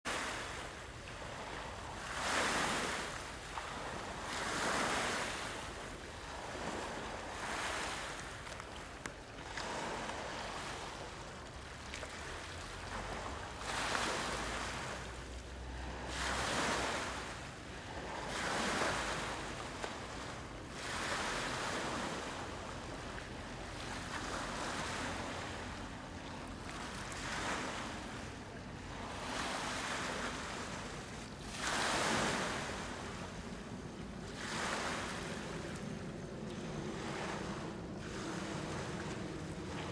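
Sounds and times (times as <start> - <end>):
waves washing onto pebbles: 0.1 - 35.7.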